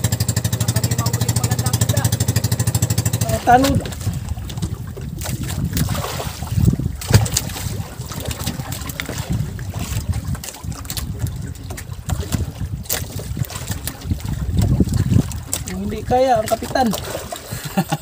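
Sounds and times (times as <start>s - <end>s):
water lapping against boat: 0.0s - 18.0s
wind buffeting microphone: 0.0s - 18.0s.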